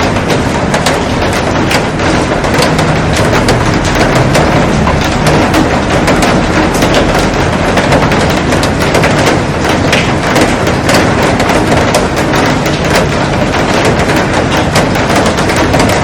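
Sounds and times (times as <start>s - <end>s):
raindrops hitting glass: 0.0s - 16.0s.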